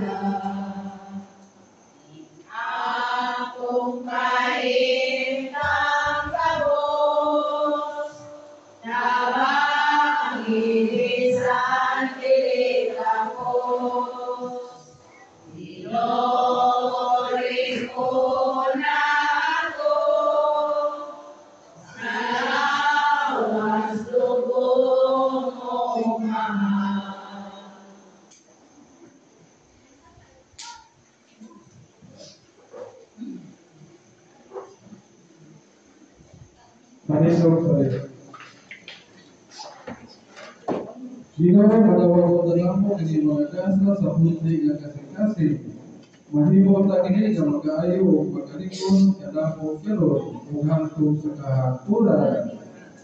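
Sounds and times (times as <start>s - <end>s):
voices singing a hymn: 0.0s - 29.0s, 37.1s - 38.2s, 40.7s - 53.0s.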